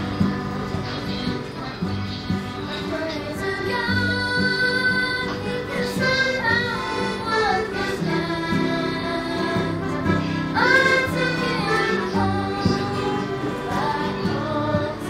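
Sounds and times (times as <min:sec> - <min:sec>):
instruments playing held chords: 0:00.0 - 0:15.0
boy singing folk song: 0:02.5 - 0:15.0.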